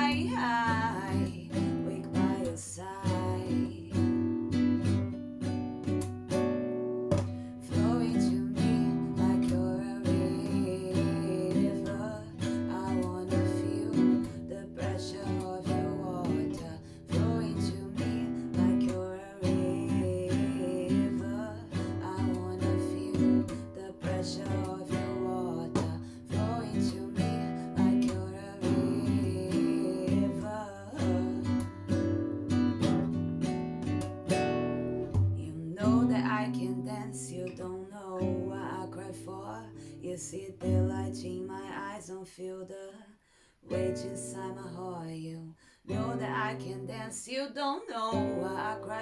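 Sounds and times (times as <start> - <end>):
acoustic guitar strumming: 0.0 - 41.9, 45.9 - 47.2, 48.0 - 49.0.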